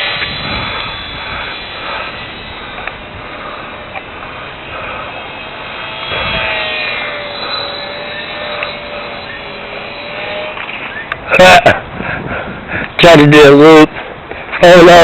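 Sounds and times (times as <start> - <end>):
small propeller motor buzzing: 0.0 - 15.0
thin steady whine: 0.0 - 15.0.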